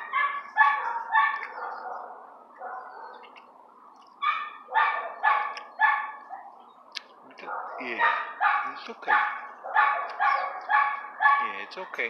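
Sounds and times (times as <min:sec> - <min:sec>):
dog barking: 0:00.0 - 0:03.3, 0:04.2 - 0:06.6, 0:07.4 - 0:11.6.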